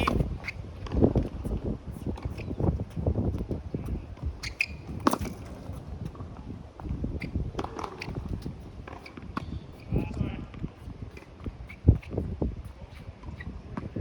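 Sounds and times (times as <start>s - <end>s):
racquets striking tennis balls: 0.0s - 14.0s
tennis balls bouncing: 0.0s - 14.0s.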